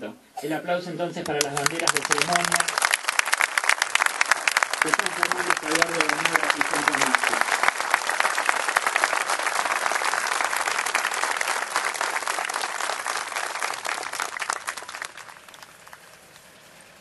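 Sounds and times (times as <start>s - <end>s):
crowd applauding: 1.2s - 16.6s.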